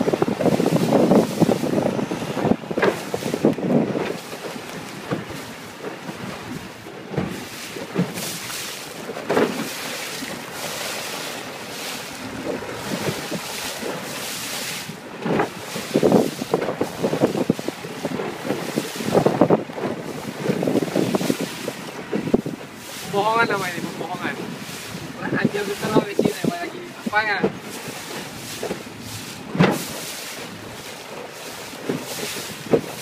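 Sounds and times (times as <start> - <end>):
hull slapping on waves: 0.0 - 33.0
water rushing past boat: 0.0 - 33.0
wind buffeting microphone: 0.0 - 33.0.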